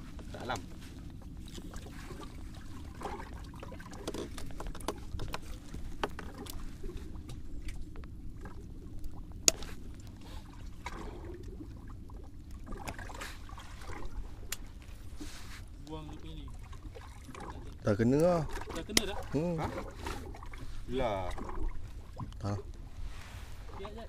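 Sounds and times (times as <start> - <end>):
low steady rumble: 0.0 - 24.0
water sloshing around boat: 0.0 - 24.0.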